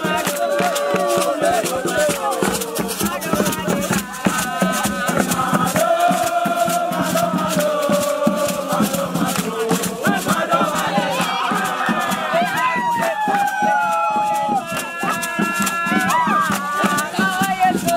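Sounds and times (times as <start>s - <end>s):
fast rattling percussion: 0.0s - 17.9s
group of voices chanting: 0.0s - 17.9s.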